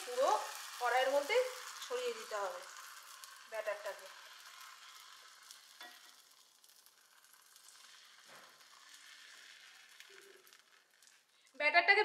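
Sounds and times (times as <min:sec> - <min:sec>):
batter sizzling in frying pan: 0:00.0 - 0:11.6.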